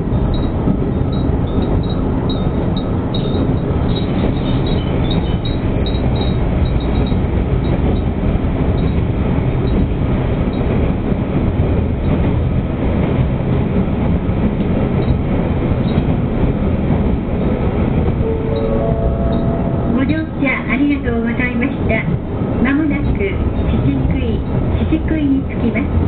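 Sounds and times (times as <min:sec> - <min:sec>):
train rumbling through a tunnel: 0:00.0 - 0:26.0.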